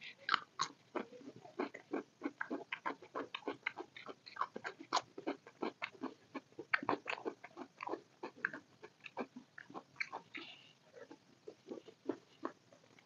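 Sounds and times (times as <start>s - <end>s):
wet chewing and lip smacking: 0.2s - 13.0s.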